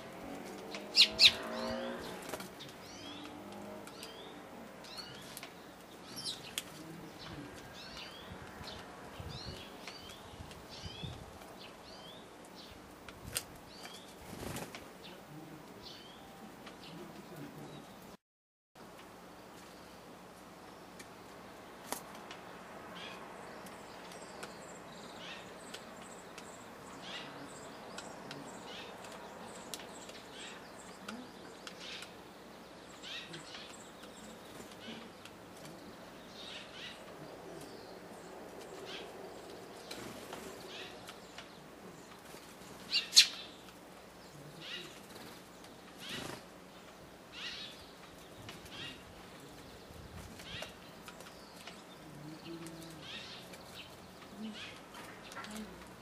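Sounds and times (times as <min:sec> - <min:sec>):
sparrows chirping: 0:00.0 - 0:12.9, 0:13.6 - 0:18.2, 0:19.2 - 0:56.0.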